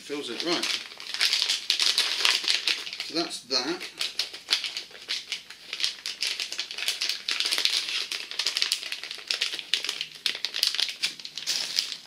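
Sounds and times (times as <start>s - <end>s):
plastic wrap and paper crinkling: 0.0s - 12.0s.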